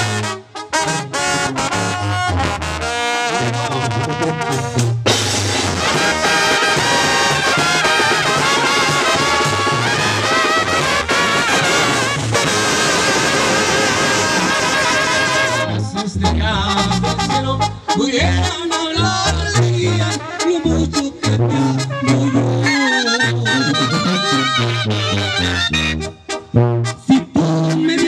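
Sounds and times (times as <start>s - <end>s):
sousaphone bass line: 0.0s - 28.0s
trumpets and trombones playing melody: 0.0s - 28.0s.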